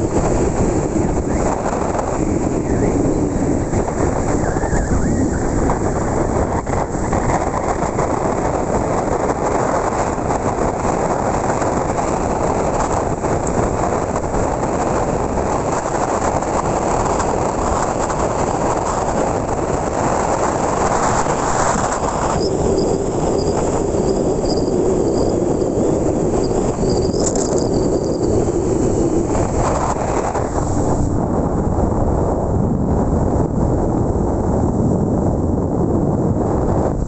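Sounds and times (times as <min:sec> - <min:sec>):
motorcycle riding rumble: 0:00.0 - 0:37.0.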